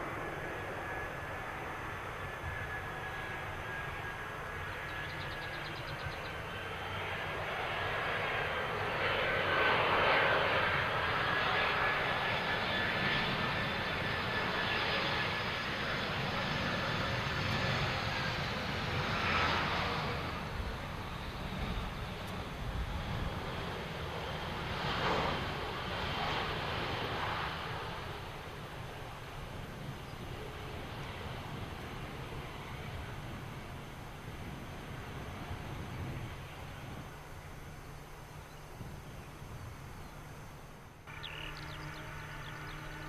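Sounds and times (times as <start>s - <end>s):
airliner engines whining: 0.0s - 43.0s.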